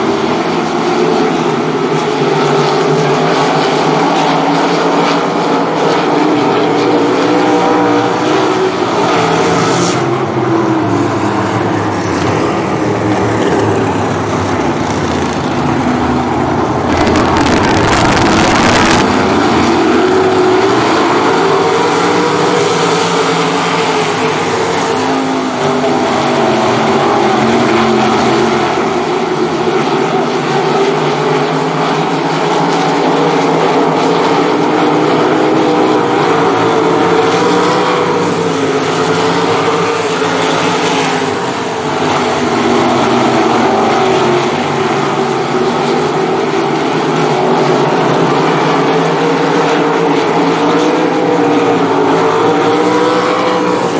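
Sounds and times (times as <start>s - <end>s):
racing car engines: 0.0s - 53.9s.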